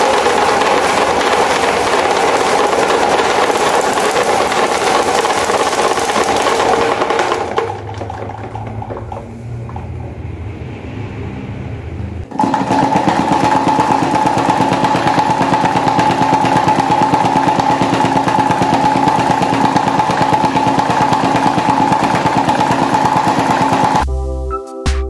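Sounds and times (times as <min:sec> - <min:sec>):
electric fan rattling and whining: 0:00.0 - 0:24.0.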